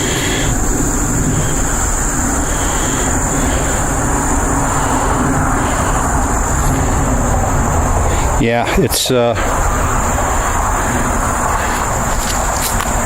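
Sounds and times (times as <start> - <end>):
high-pitched insect drone: 0.0 - 13.0
low rumbling noise: 0.0 - 13.0.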